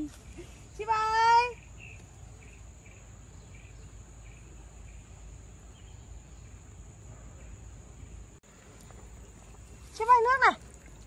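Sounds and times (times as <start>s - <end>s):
high-pitched insect chorus: 0.1s - 11.0s.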